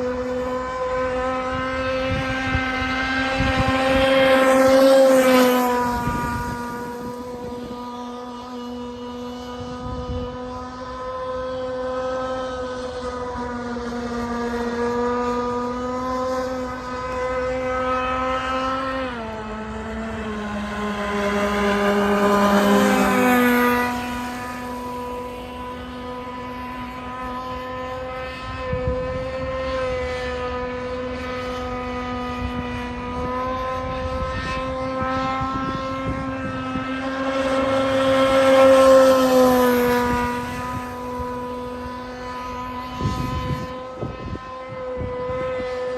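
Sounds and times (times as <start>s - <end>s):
model engine buzzing: 0.0s - 45.9s.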